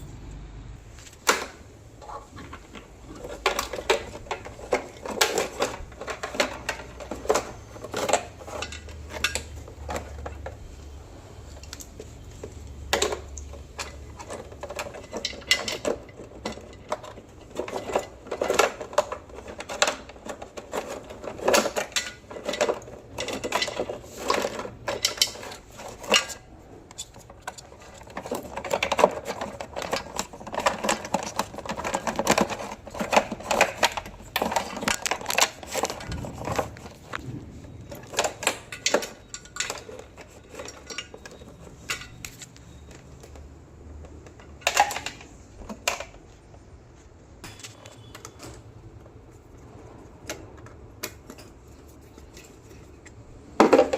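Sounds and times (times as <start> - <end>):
tools and metal parts clattering: 0.9 - 46.7, 47.4 - 53.9.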